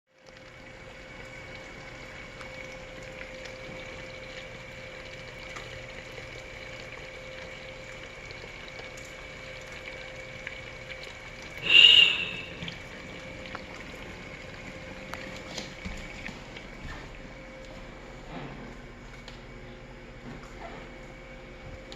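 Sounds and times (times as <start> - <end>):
dishwasher running: 0.2 - 21.9
wash motor hum and whine: 0.2 - 21.9.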